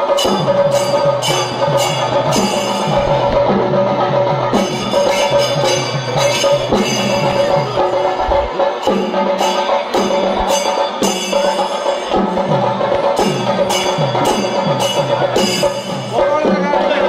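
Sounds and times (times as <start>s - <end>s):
metallic strikes on a beat: 0.0s - 17.0s
percussion-led music: 0.0s - 17.0s.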